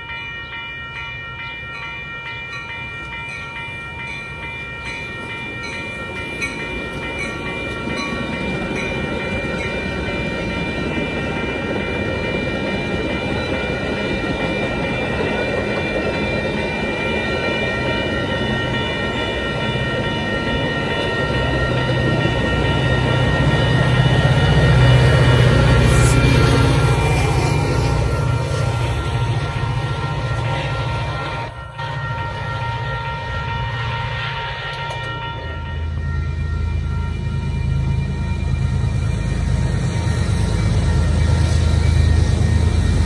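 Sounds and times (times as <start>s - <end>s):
crossing bell ringing: 0.0s - 43.0s
diesel locomotive engine: 0.0s - 43.0s
train wheels rumbling on rails: 2.4s - 43.0s.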